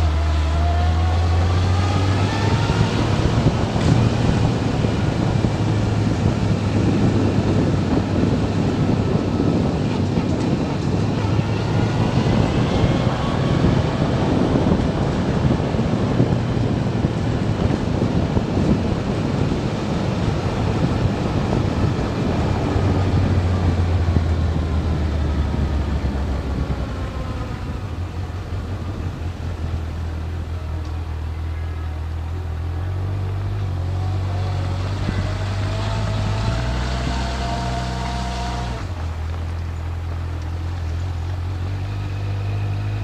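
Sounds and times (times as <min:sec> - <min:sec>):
motorcycle engine: 0:00.0 - 0:43.0
wind and road noise: 0:00.0 - 0:43.0.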